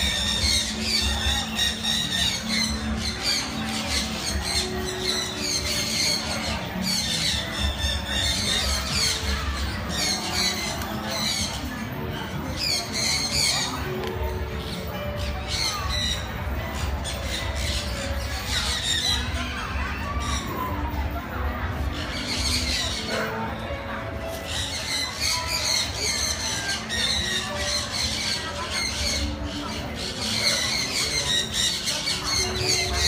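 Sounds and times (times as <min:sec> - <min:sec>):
flock of birds squawking: 0:00.0 - 0:33.0.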